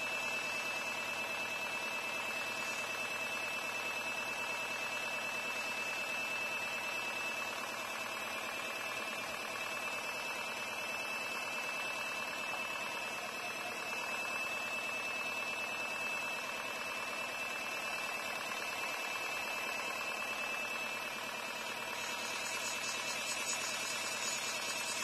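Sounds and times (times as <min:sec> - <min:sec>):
airbrush compressor running: 0:00.0 - 0:25.0.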